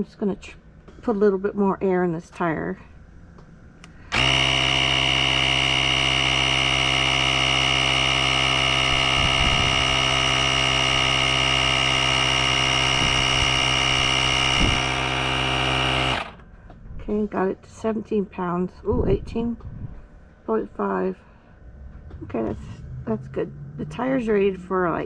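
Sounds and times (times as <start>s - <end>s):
air compressor motor whining hum: 2.8s - 25.0s.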